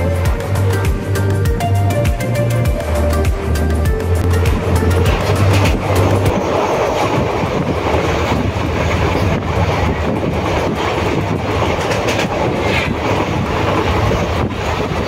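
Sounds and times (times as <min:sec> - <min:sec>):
train rumble and rush: 0:00.0 - 0:15.0
wheels clacking on rails: 0:00.0 - 0:15.0.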